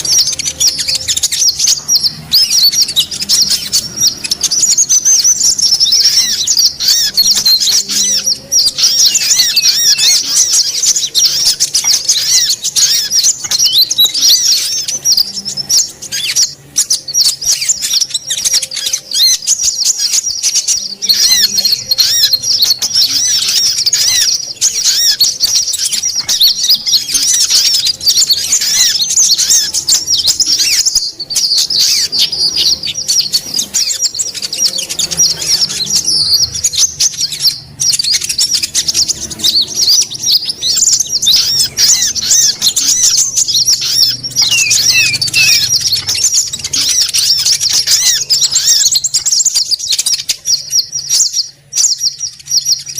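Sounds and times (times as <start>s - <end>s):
songbirds chirping and twittering: 0.0s - 52.9s.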